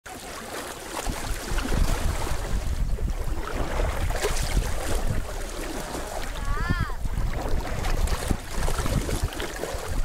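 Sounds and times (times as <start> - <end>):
water slapping around kayak: 0.0 - 10.0
paddle splashes: 0.1 - 10.0
wind buffeting microphone: 0.9 - 10.0.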